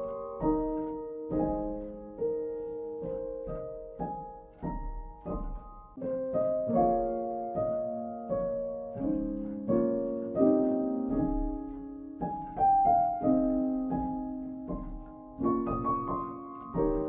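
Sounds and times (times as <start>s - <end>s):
calm instrumental music: 0.0s - 17.0s.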